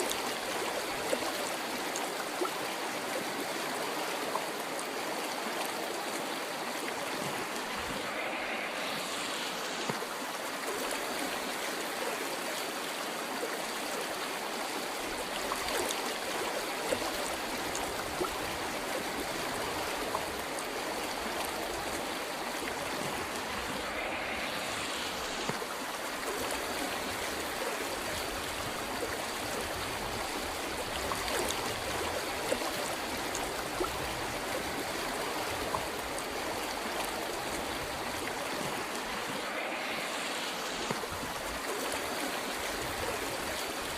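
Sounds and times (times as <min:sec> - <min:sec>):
river water flowing over rocks: 0:00.0 - 0:43.9.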